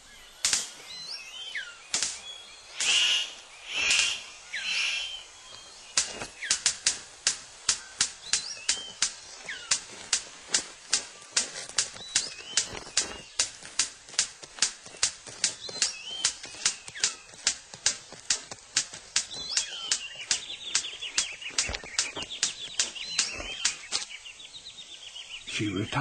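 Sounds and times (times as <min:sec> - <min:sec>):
rhythmic bird clicking: 0:00.0 - 0:26.0
thin whistled bird calls: 0:00.0 - 0:26.0
harsh rasping bird bursts: 0:00.4 - 0:24.1.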